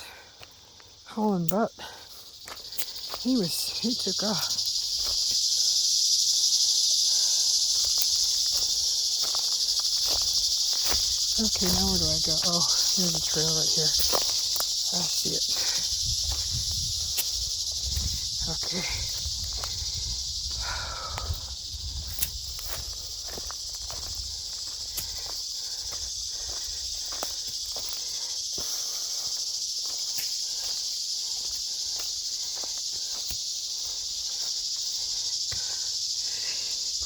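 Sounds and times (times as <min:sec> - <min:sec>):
footsteps crunching on dry trail: 0:00.0 - 0:37.0
high-pitched insect chorus: 0:00.0 - 0:37.0.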